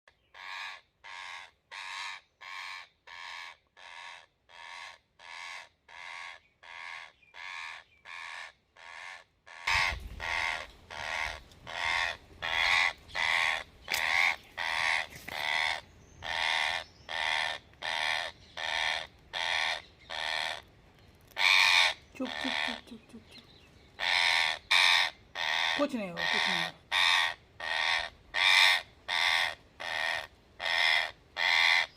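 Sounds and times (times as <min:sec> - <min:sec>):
parrot distress squawks: 0:00.3 - 0:20.6, 0:21.4 - 0:22.8, 0:24.0 - 0:31.9.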